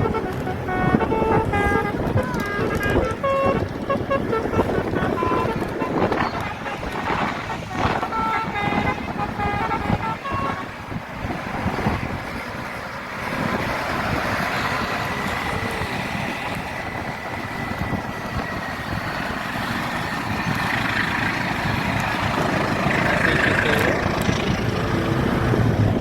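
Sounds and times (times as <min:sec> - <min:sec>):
bus musical horn: 0:00.0 - 0:12.7, 0:13.3 - 0:24.6
traffic rumble: 0:00.0 - 0:26.0.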